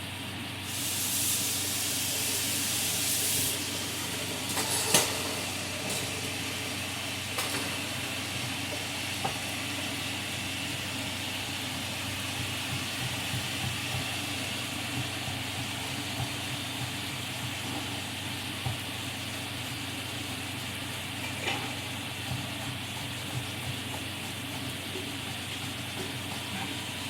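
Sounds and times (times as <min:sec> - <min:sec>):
food frying in a pan: 0:00.0 - 0:27.0.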